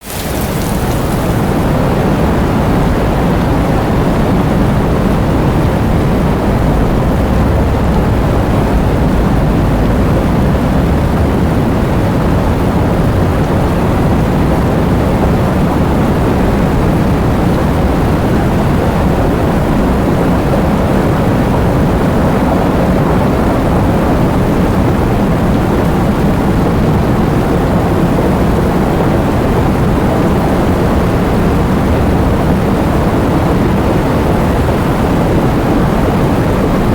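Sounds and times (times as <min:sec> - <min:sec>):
heavy rain: 0:00.0 - 0:36.9
strong wind: 0:00.0 - 0:36.9.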